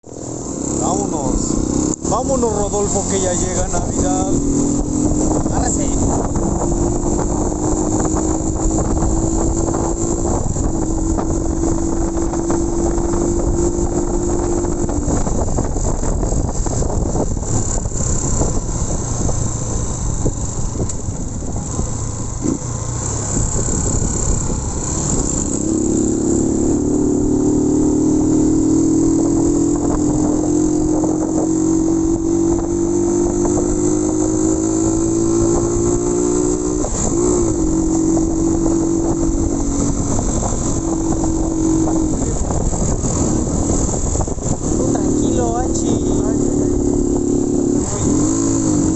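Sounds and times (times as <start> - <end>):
motorcycle engine: 0.0 - 48.9
road noise: 0.0 - 48.9
wind noise: 0.1 - 22.6, 23.2 - 48.9.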